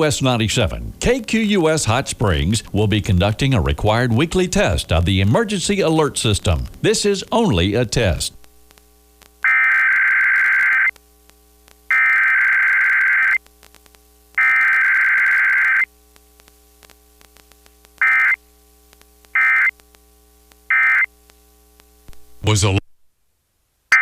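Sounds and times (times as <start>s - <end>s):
harsh buzzing data tone bursts: 1.0s - 22.8s.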